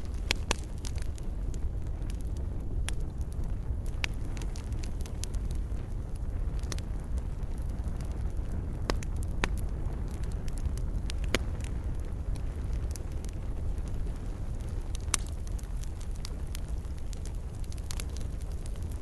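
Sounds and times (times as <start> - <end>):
fire pops and snaps: 0.0 - 19.0
wood fire crackling: 0.0 - 19.0.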